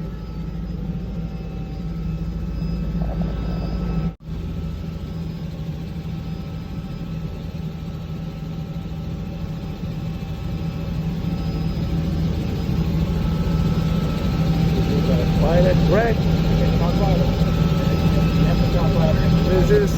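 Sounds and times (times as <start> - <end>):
helicopter engine and rotor: 0.0 - 19.9.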